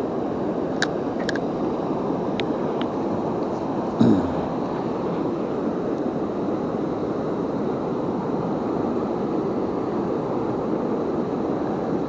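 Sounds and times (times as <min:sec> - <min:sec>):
rushing river water: 0:00.0 - 0:12.0.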